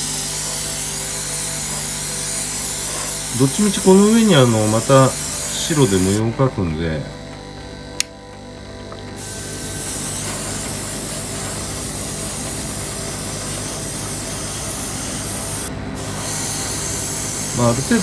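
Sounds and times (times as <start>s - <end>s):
airbrush air hiss: 0.0s - 7.1s, 9.2s - 18.0s.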